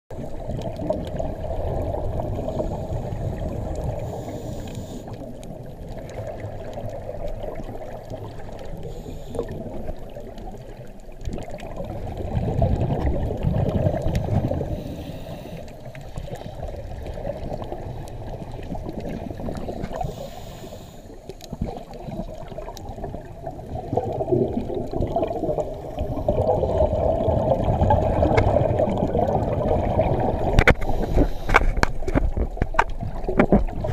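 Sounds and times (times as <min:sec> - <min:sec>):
underwater bubbles gurgling: 0:00.1 - 0:33.9.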